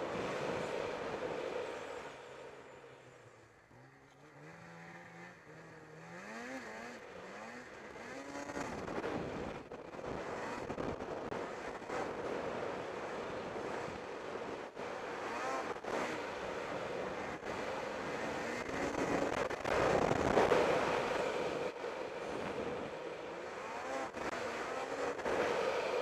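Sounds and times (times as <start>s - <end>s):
snowmobile engine accelerating: 0.0s - 26.0s
track and snow noise: 0.0s - 26.0s.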